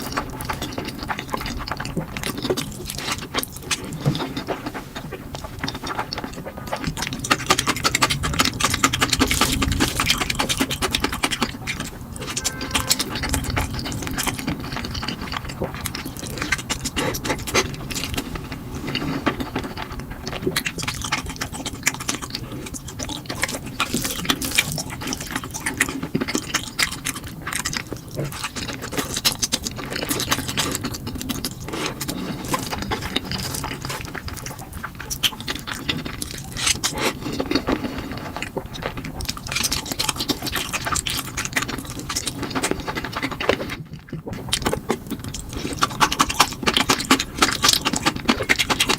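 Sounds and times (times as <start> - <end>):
chewing and slurping noodles: 0.0 - 48.9.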